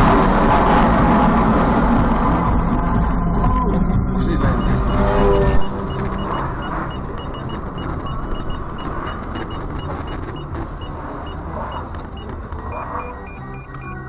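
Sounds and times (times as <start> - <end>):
vehicle and road noise: 0.0 - 14.0.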